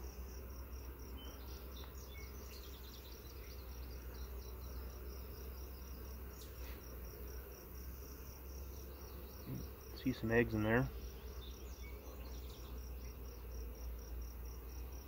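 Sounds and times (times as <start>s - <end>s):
honeybees humming: 0.0s - 15.0s
insect chirping in high pulses: 0.0s - 15.0s.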